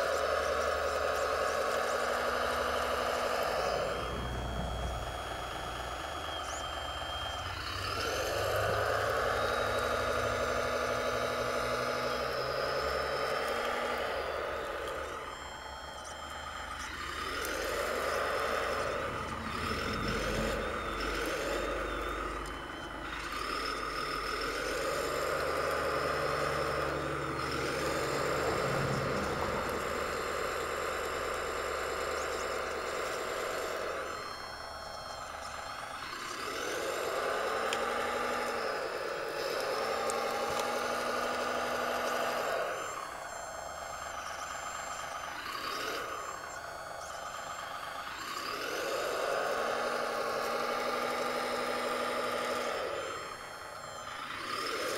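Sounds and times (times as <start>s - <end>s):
model track loader motors whining: 0.0s - 54.9s.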